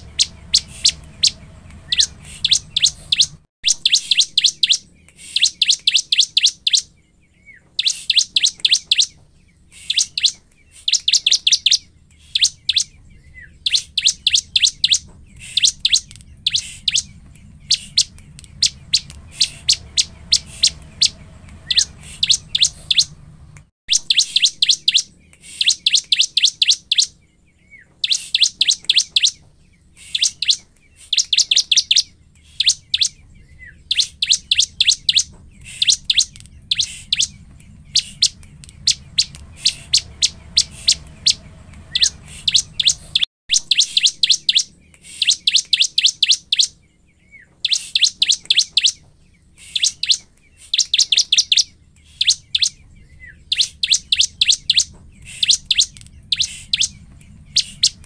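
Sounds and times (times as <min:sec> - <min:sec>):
bird singing rapid high notes: 0:00.0 - 0:58.0.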